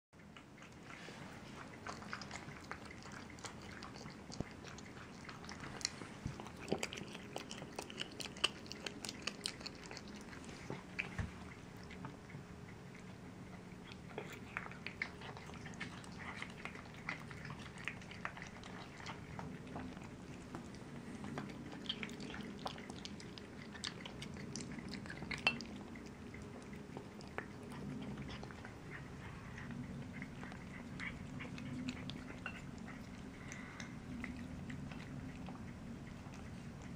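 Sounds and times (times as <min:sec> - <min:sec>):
cats chewing meat and bone: 0:00.2 - 0:36.9.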